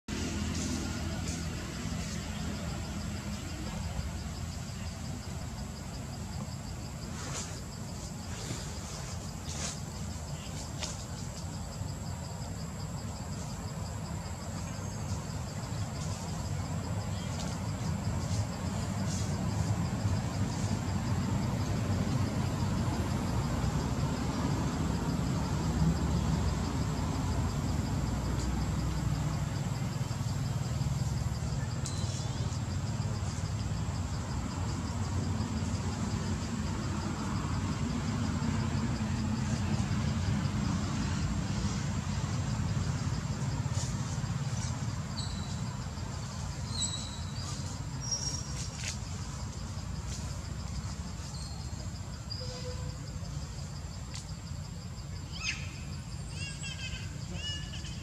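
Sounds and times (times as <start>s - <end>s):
high insect whine: 0.1s - 58.0s
insects chirping: 0.1s - 58.0s.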